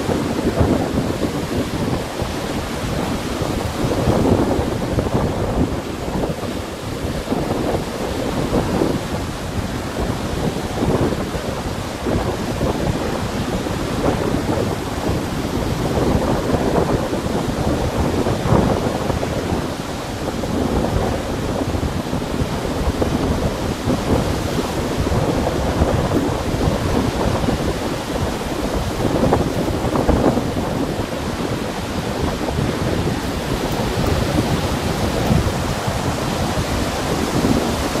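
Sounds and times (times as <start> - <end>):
waves washing over pebbly shore: 0.0 - 38.0
wind buffeting microphone: 0.0 - 38.0.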